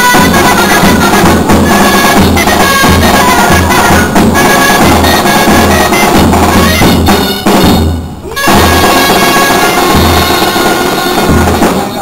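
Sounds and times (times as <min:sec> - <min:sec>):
large drum beat: 0:00.0 - 0:12.0
shawms playing: 0:00.0 - 0:12.0.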